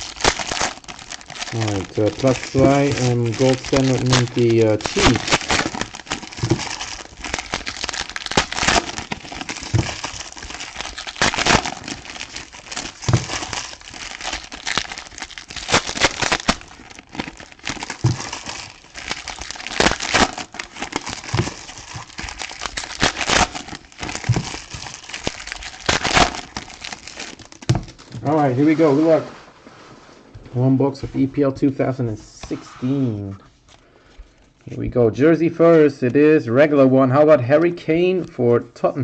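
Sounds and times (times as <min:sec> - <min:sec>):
plastic wrap crinkling: 0:00.0 - 0:32.3.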